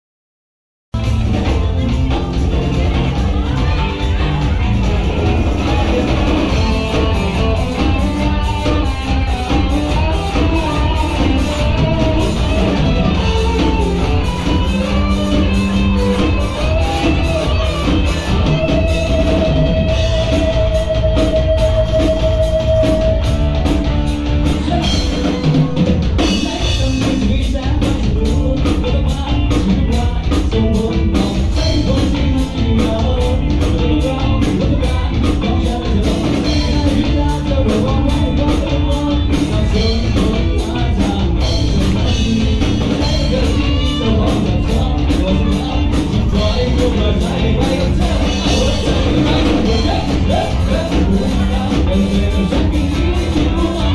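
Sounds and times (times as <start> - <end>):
drum kit beat: 0.9 - 53.9
electric guitars: 1.0 - 53.9.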